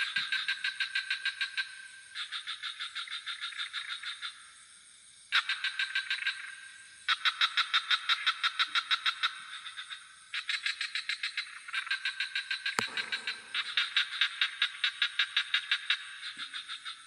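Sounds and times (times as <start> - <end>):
crickets chirring: 0.0 - 17.0
frogs calling in pulsed trills: 0.0 - 17.0.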